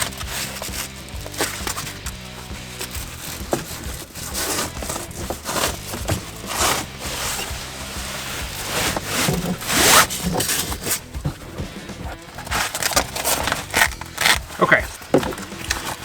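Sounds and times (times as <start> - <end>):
fabric and straps rustling: 0.0 - 16.0
faint background music: 0.0 - 16.0.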